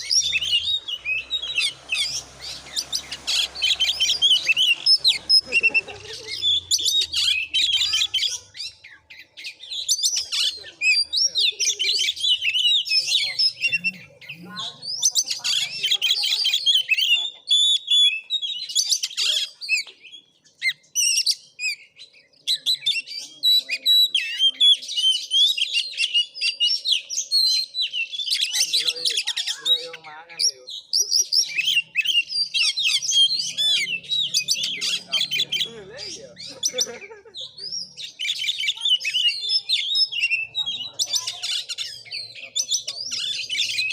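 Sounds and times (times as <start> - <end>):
bird singing whistles and chatter: 0.0 - 43.9.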